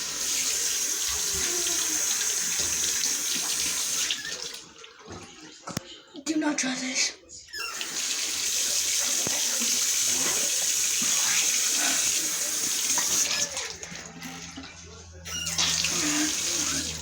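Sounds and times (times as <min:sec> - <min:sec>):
water running from tap: 0:00.0 - 0:05.5, 0:07.6 - 0:17.0.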